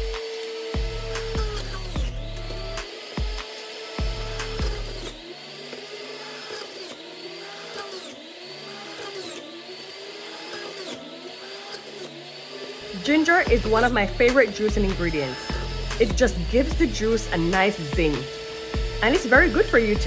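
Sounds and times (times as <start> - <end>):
juicer motor whine: 0.0 - 20.0.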